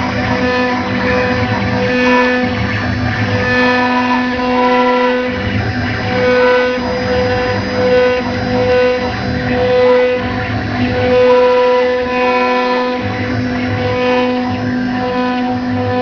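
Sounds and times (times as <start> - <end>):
soft low pulse: 0.0 - 16.0.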